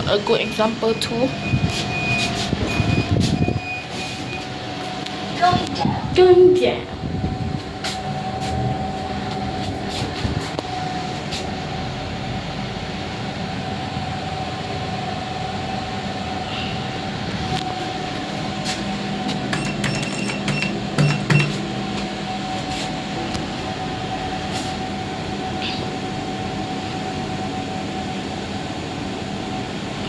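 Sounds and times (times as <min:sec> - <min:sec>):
lift running hum and rumble: 0:00.0 - 0:30.0
thin steady whine: 0:00.0 - 0:30.0.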